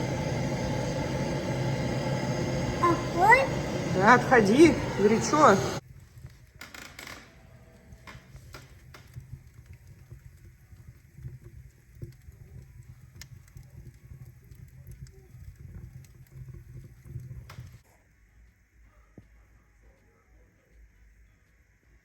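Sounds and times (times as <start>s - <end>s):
fire crackling and popping: 0.0s - 17.8s.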